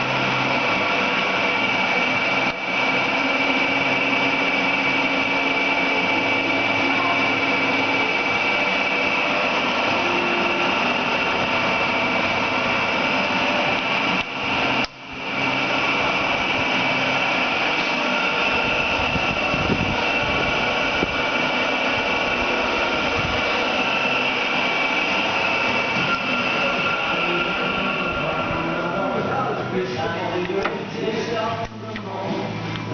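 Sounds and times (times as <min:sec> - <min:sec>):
metal lathe whining: 0:00.0 - 0:32.9.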